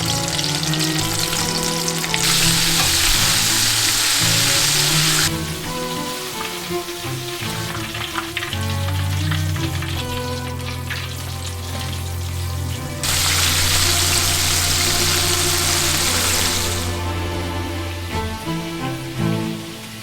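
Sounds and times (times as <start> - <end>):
food sizzling in hot oil: 0.0 - 17.0
background music: 0.0 - 20.0.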